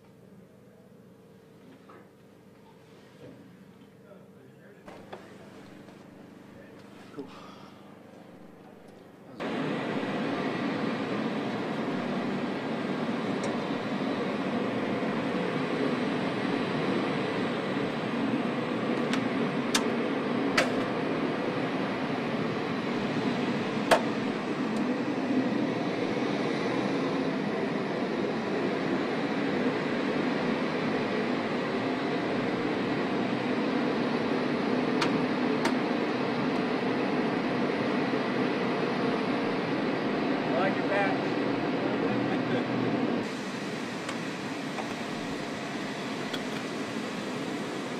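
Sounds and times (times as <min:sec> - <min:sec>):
machine drone with low hum: 0:00.0 - 0:47.9
jet engines rushing: 0:07.2 - 0:47.9.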